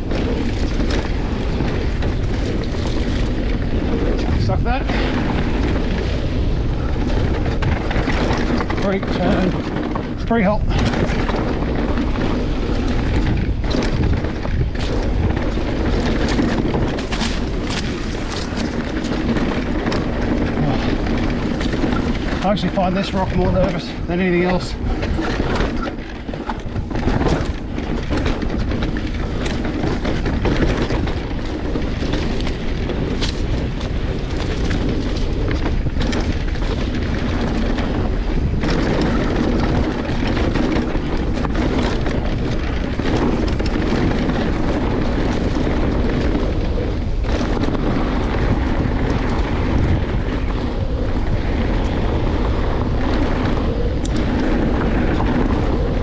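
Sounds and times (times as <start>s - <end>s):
bike rattling clicks and knocks: 0.0s - 56.0s
tyres rushing on dirt: 0.0s - 56.0s
wind buffeting microphone: 0.0s - 56.0s.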